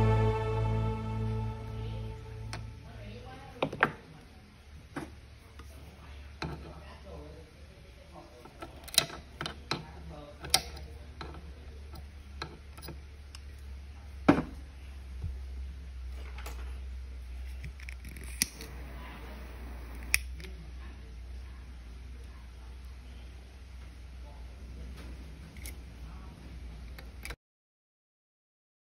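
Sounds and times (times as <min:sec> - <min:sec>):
low steady hum: 0:00.0 - 0:27.3.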